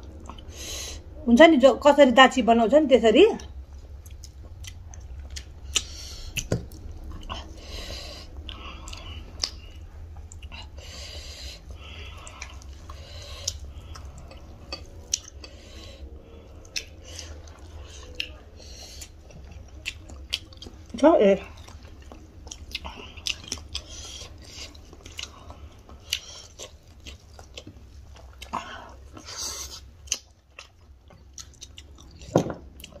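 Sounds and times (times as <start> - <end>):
people chewing food: 0.0 - 1.2, 3.4 - 33.0
steady low hum: 0.0 - 33.0.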